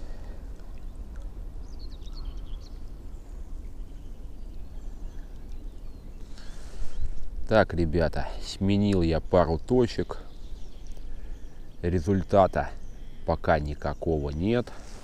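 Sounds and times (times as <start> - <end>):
faint bird chirps: 0.0 - 7.4, 9.2 - 15.0.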